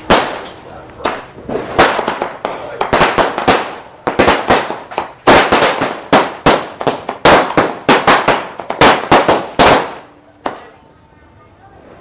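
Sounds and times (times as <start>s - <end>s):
firecrackers banging: 0.0s - 10.8s.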